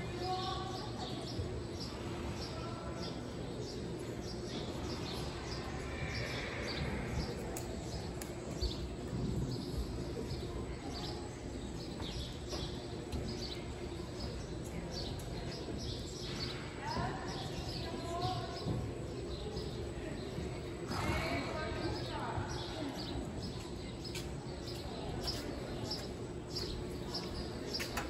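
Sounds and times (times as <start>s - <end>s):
low background noise: 0.0s - 28.0s
small birds chirping: 0.0s - 28.0s.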